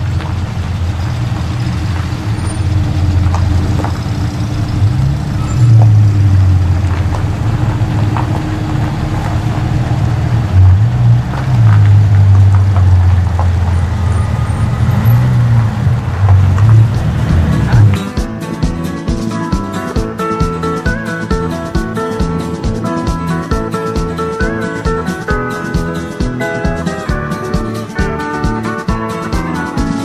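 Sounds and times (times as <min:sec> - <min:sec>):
sports car engines pulling away: 0:00.0 - 0:30.0.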